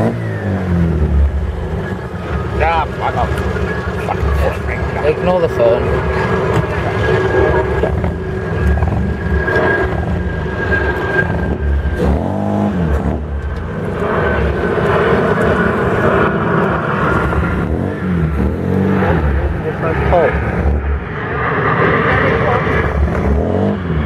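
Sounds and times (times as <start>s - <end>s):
car engine running at low speed: 0.0s - 21.2s.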